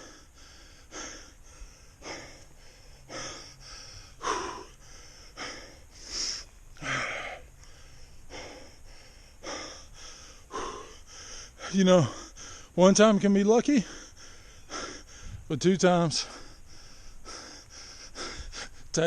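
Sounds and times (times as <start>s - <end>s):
man breathing hard: 0.0s - 12.8s, 13.8s - 15.5s, 16.1s - 19.0s.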